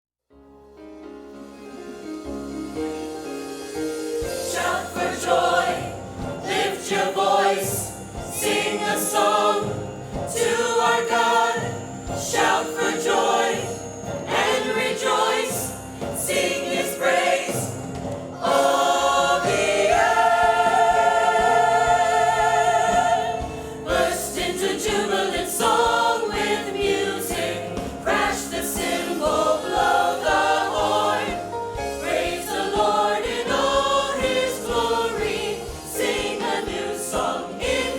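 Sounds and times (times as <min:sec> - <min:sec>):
band playing: 0:01.3 - 0:37.9
group singing gospel song: 0:04.5 - 0:37.9.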